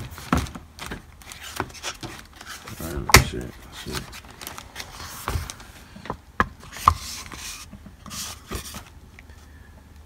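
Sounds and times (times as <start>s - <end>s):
plastic wrapping rustling: 0.0s - 9.0s.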